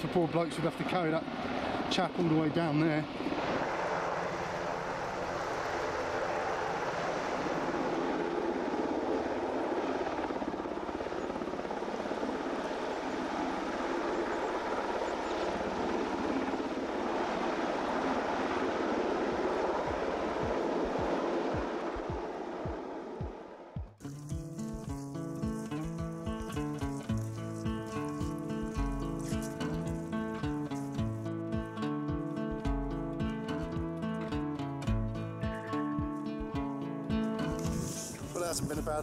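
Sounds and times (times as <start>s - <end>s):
helicopter rotor and turbine: 0.0s - 39.0s.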